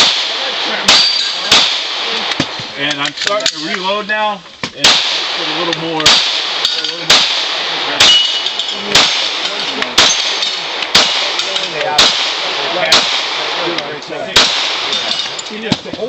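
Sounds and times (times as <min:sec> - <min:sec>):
handgun shots: 0:00.0 - 0:02.6, 0:04.8 - 0:15.4.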